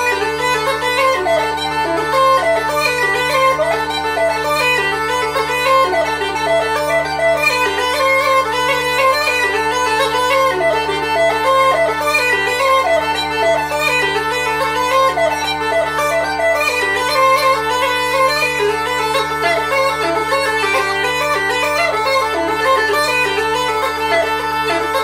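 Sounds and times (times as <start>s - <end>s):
uilleann pipes playing a fast reel: 0.0s - 25.0s.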